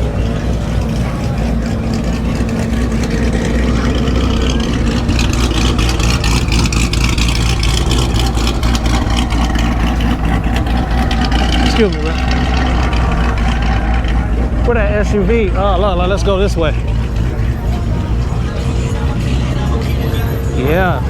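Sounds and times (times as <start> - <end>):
rapid crackling rattle: 0.0 - 19.8
vehicle engine running: 0.0 - 21.0.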